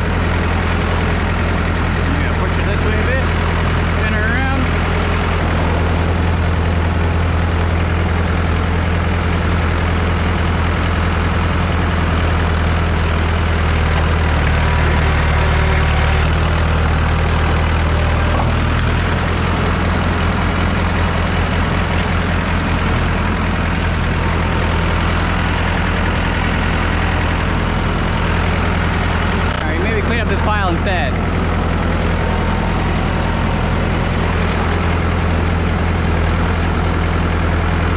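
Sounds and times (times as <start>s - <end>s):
diesel tractor engine running: 0.0s - 37.9s.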